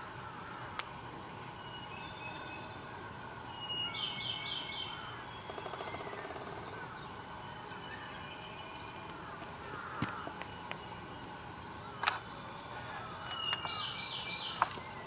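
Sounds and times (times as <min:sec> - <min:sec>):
birds singing and calling: 0:00.0 - 0:15.0.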